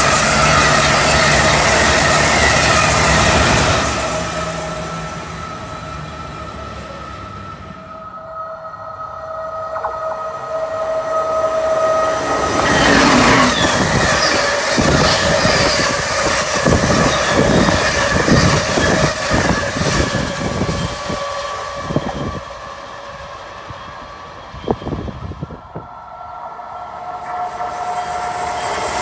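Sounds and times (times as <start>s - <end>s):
train wheels on rails: 0.0s - 8.4s, 9.4s - 29.0s
steady high tone: 0.0s - 27.0s.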